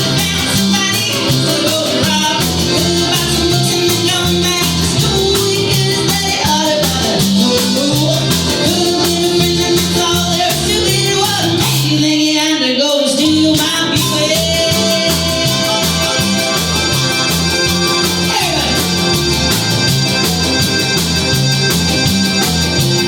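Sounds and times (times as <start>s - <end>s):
electric guitar: 0.0s - 23.0s
live rock band playing: 0.0s - 23.0s.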